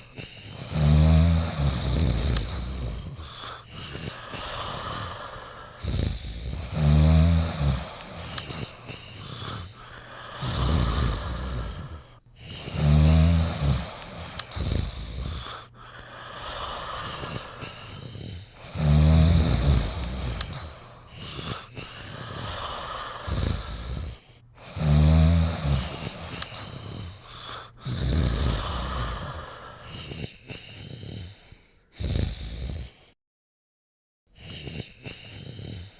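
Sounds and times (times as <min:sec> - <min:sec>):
people snoring: 0:00.0 - 0:33.2, 0:34.4 - 0:35.9.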